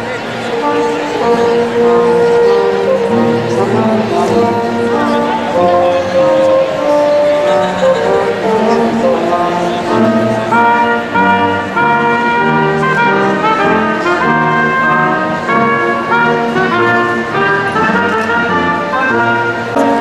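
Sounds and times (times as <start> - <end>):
brass ensemble playing chords: 0.0 - 20.0.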